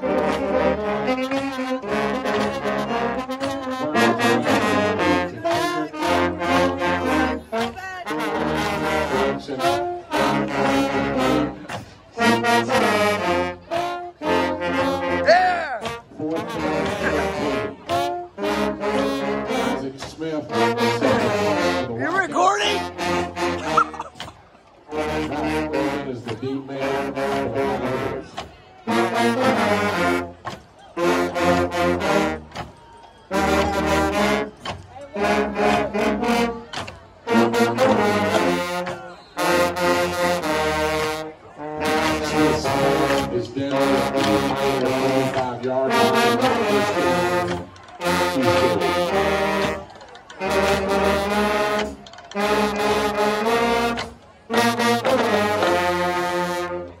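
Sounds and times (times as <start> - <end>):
low brass section playing: 0.0 - 24.1, 24.8 - 28.3, 28.9 - 30.4, 31.0 - 32.6, 33.3 - 57.0.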